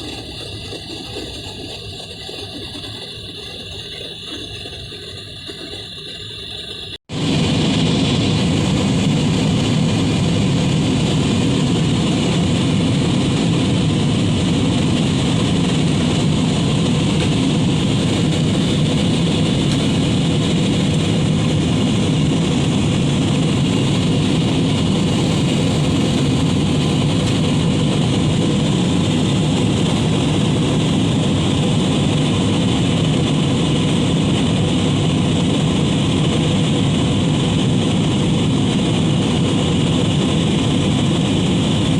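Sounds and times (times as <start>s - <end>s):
jet airliner cabin noise: 0.0s - 41.9s.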